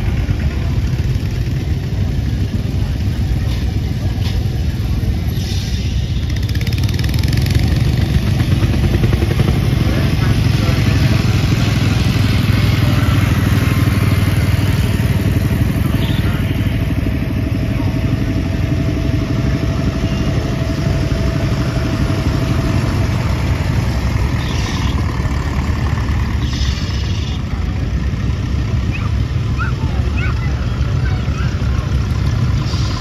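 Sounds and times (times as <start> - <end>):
tractor engines driving past: 0.0 - 33.0.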